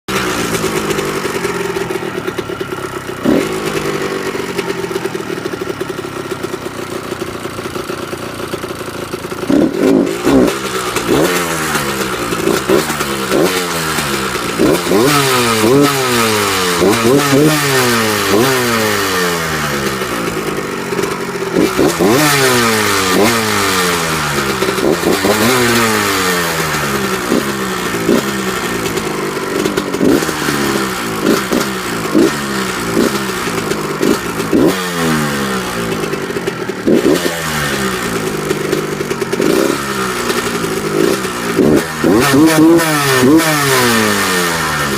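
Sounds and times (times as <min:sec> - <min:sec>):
motorcycle engine idling and revving: 0:00.0 - 0:44.9
engine ticking and rattling: 0:00.1 - 0:44.9.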